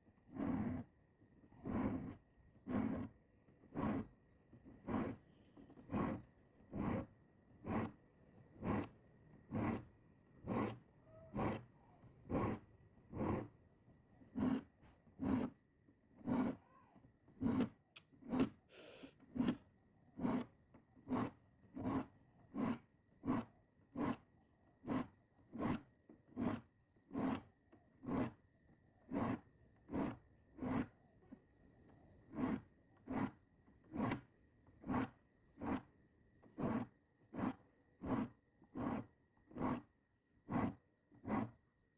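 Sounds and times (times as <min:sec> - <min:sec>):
file rasping on saw teeth: 0:00.2 - 0:13.6, 0:14.2 - 0:16.7, 0:17.3 - 0:28.4, 0:29.0 - 0:31.0, 0:32.3 - 0:39.9, 0:40.5 - 0:41.6.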